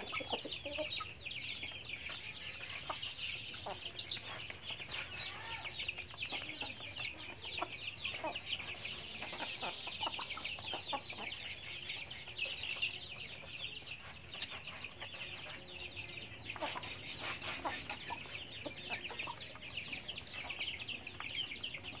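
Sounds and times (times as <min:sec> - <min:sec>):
chickens chirping and peeping: 0:00.0 - 0:22.0
chickens clucking: 0:00.0 - 0:22.0.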